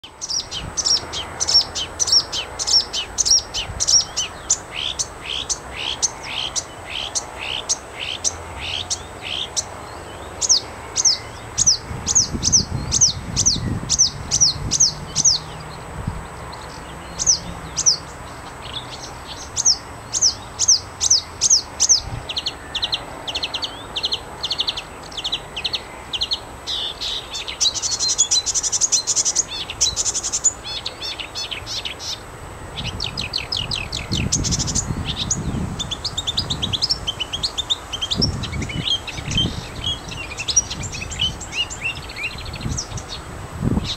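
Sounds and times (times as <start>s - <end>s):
warbler singing: 0.0s - 43.9s.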